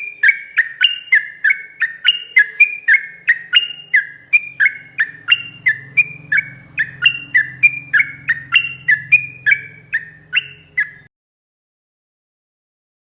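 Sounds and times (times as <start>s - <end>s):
bird chirping sharp notes: 0.0s - 11.1s.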